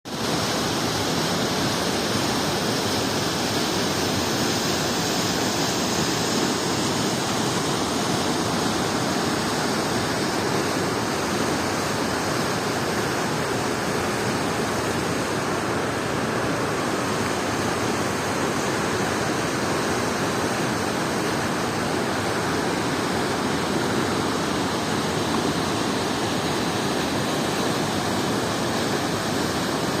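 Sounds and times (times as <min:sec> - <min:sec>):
waterfall roaring: 0:00.1 - 0:30.0.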